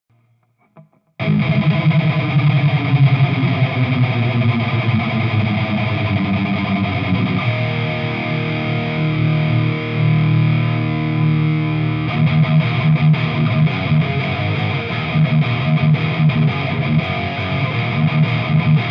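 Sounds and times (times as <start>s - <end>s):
distorted electric guitar: 0.1s - 18.9s.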